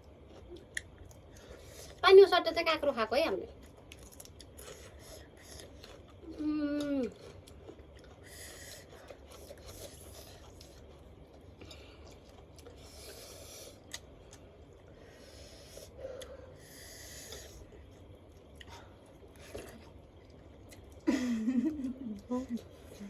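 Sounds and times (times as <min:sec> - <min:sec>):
faint chewing: 0:00.0 - 0:02.0, 0:03.4 - 0:23.0.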